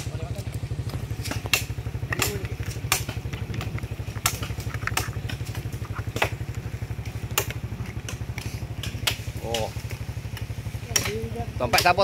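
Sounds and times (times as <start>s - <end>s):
branches snapping and cracking: 0.0s - 12.0s
engine idling: 0.0s - 12.0s.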